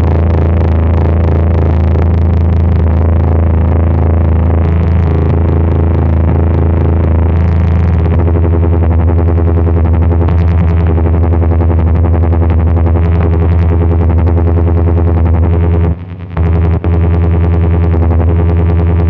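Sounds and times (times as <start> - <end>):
heavy low hum: 0.0 - 19.0
loud electronic drone: 0.0 - 19.0
warbling buzz pulsing flutter: 0.0 - 19.0.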